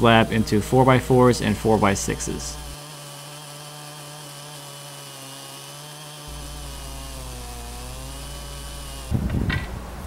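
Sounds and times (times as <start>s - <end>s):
chainsaw cutting through log: 0.0s - 10.0s.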